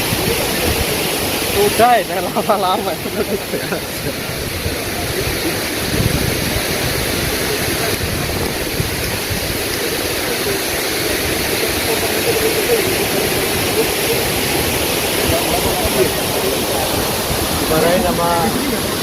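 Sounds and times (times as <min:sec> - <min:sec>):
waterfall pouring: 0:00.0 - 0:19.0.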